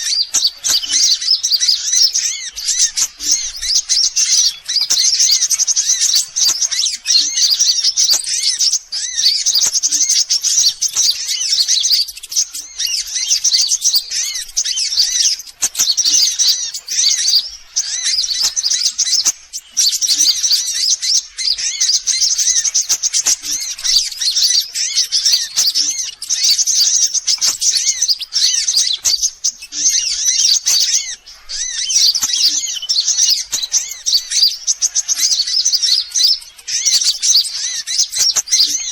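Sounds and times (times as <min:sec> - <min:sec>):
sunbirds chirping and trilling: 0:00.0 - 0:38.9.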